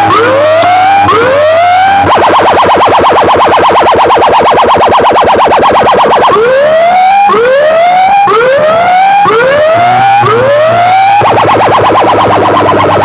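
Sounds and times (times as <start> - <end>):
electronic siren wailing: 0.0 - 13.0.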